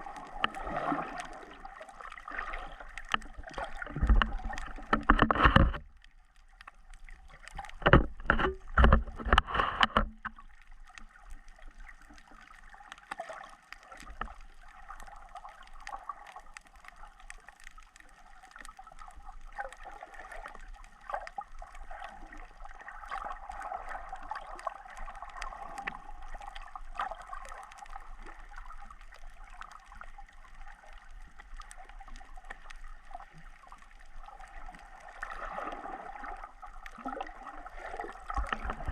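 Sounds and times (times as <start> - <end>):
faint crackling clicks: 0.0 - 38.9
water gurgling and sloshing: 0.0 - 38.9.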